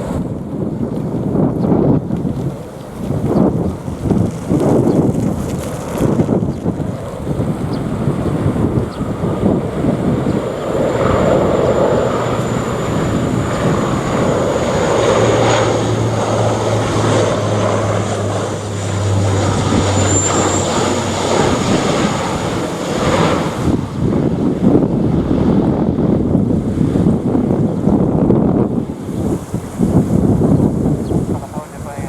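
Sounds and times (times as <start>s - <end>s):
airliner engines passing overhead: 0.0s - 32.0s
wind buffeting microphone: 0.0s - 32.0s.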